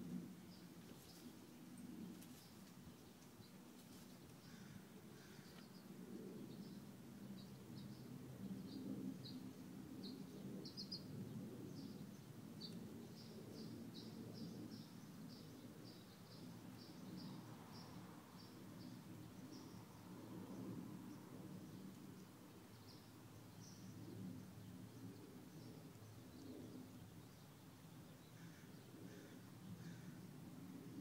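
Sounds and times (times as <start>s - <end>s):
faint bird chirping: 0.4s - 30.3s.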